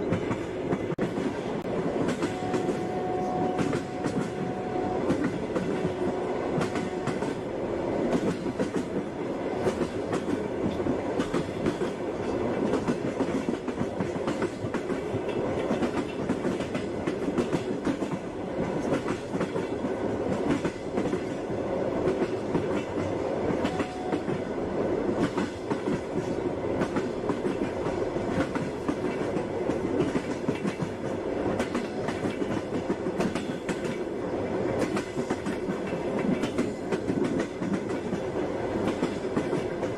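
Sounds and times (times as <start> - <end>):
train wheels clacking over rail joints: 0.0 - 21.4, 22.0 - 24.5, 25.1 - 34.1, 34.7 - 39.9
train carriage rumble: 0.0 - 39.9.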